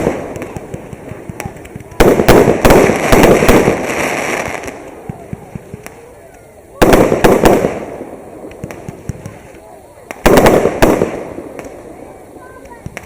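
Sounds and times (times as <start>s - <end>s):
fireworks banging: 0.0s - 13.0s
rumble of fireworks: 0.0s - 13.0s.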